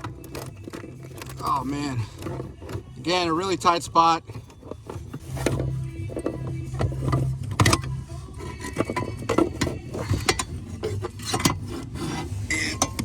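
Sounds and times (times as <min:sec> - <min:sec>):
metallic clunks and rattles: 0:00.0 - 0:13.0.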